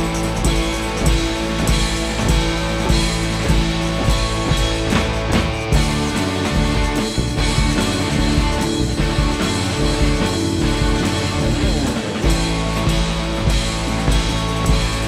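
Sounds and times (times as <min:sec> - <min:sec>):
drum kit: 0:00.0 - 0:15.0
electric guitars: 0:00.0 - 0:15.0
live rock band playing: 0:00.0 - 0:15.0.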